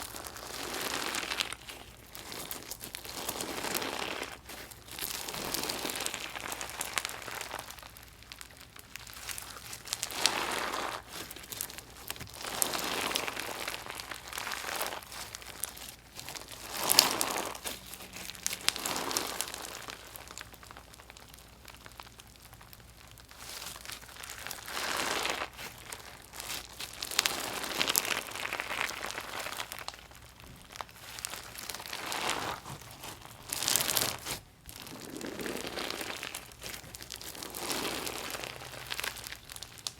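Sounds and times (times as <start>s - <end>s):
crunchy slime squeezed by hand: 0.0s - 39.9s.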